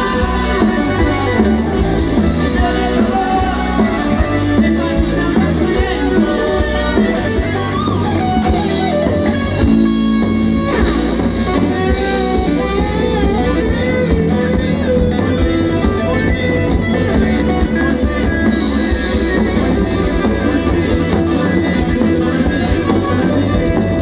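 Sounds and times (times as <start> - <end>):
electric guitar sliding notes: 0.0 - 24.0
live rock band playing: 0.0 - 24.0.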